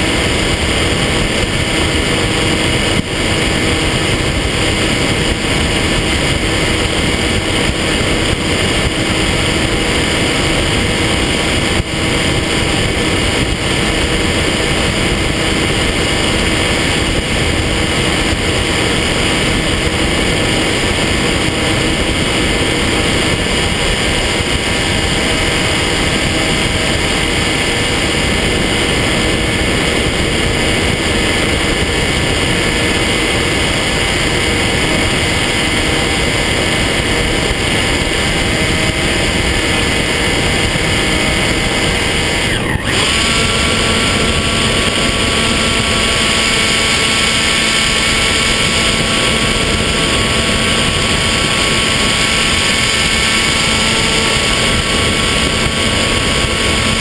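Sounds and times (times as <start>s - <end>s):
electric motor and propeller whining: 0.0s - 57.0s
wind rushing over camera: 0.0s - 57.0s.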